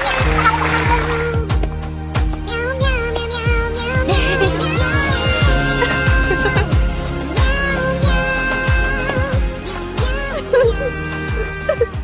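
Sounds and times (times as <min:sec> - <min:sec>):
sustained melody: 0:00.0 - 0:12.0
deep bass thumps: 0:00.2 - 0:12.0.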